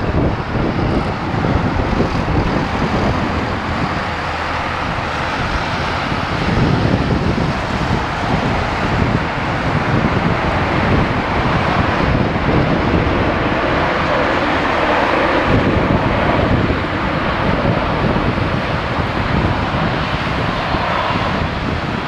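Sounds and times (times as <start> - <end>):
jet engines running: 0.0 - 22.0
wind buffeting microphone: 0.0 - 22.0.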